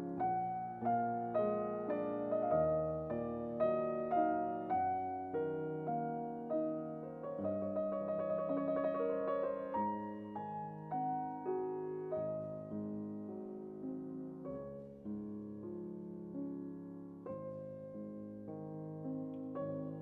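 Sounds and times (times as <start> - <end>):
slow gentle piano piece: 0.0 - 20.0.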